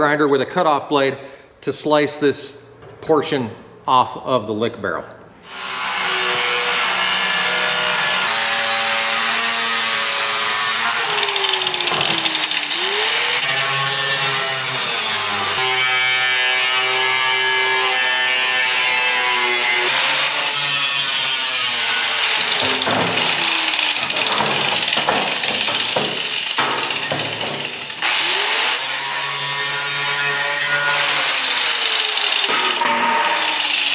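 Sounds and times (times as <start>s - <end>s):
angle grinder cutting steel: 5.4s - 33.9s.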